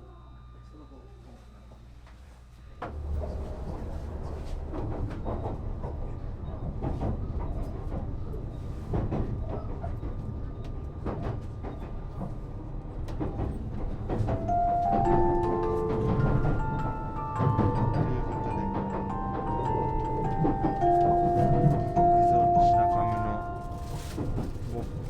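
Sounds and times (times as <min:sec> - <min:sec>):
train rumble: 0:02.7 - 0:25.0
train clicks and knocks: 0:02.8 - 0:25.0.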